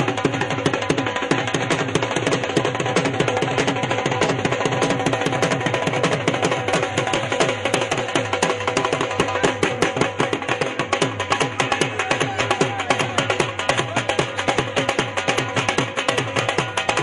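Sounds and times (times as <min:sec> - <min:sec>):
music with fast dense drumming: 0:00.0 - 0:17.0.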